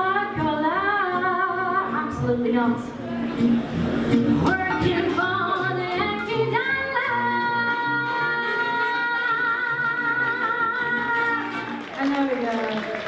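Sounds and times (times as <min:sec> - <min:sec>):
backing music: 0:00.0 - 0:13.0.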